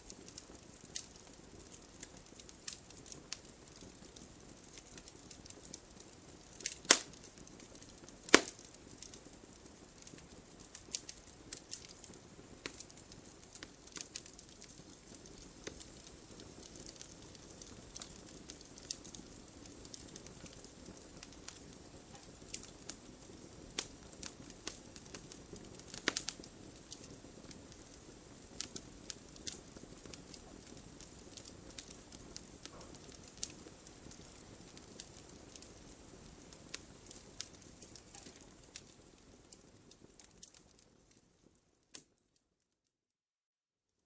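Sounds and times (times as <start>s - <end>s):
wood fire crackling: 0.0s - 42.4s.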